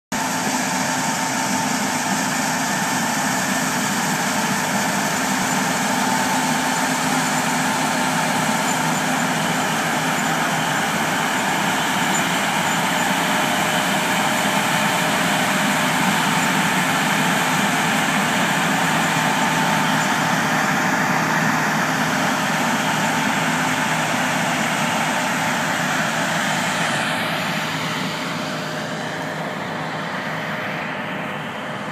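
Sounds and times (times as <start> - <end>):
combine harvester droning: 0.1 - 31.9
thin steady whine: 0.2 - 31.9.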